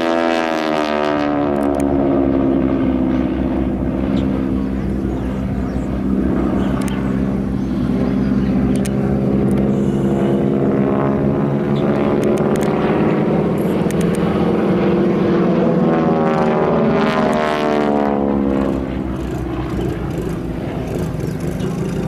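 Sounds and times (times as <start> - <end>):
propeller planes engines overhead: 0.0 - 22.0.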